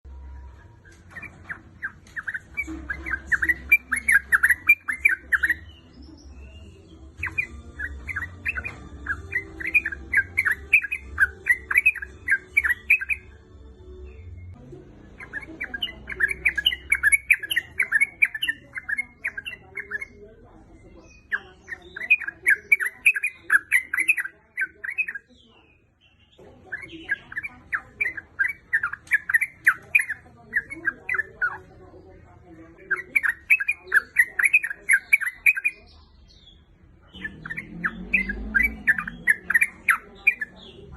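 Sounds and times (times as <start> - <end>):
bird chattering: 0.7 - 13.4, 15.1 - 40.9.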